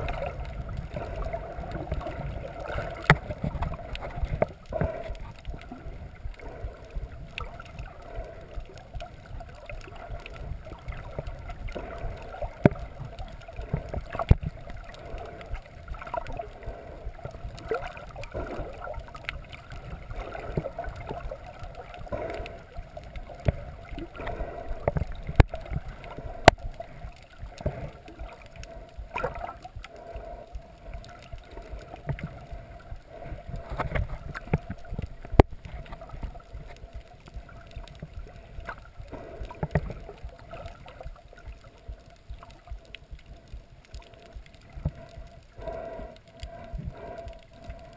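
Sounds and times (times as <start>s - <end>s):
muffled underwater sloshing: 0.0s - 47.9s
steady low rumble: 0.0s - 47.9s.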